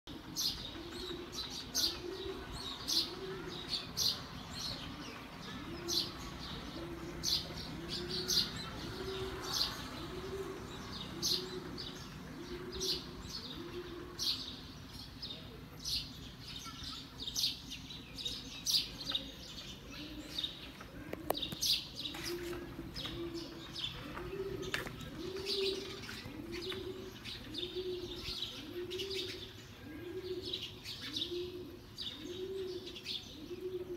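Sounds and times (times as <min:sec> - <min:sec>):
bird hooting coos: 0:00.1 - 0:14.7, 0:18.2 - 0:33.9
small birds chirping: 0:00.1 - 0:33.9.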